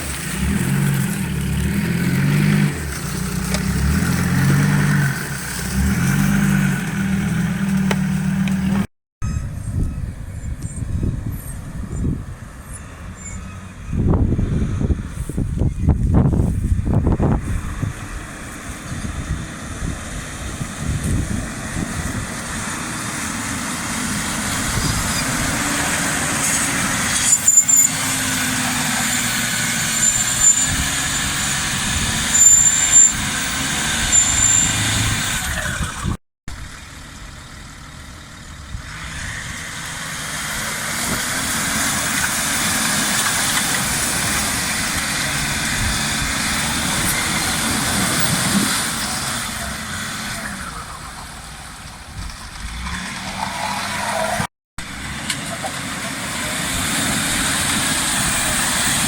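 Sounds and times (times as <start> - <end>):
off-road engines revving under load: 0.0 - 8.9, 16.1 - 36.2, 38.6 - 59.0.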